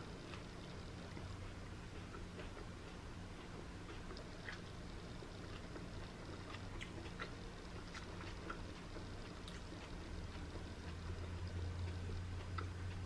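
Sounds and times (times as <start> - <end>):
chewing and eating sounds: 0.0 - 13.0
low steady hum: 0.0 - 13.0.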